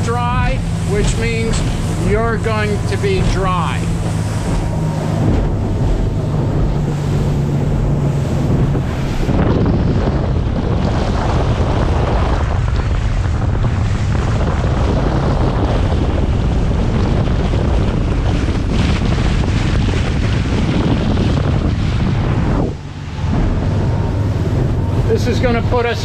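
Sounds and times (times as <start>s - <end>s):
water rushing along hull: 0.0s - 26.0s
wind buffeting microphone: 0.0s - 26.0s.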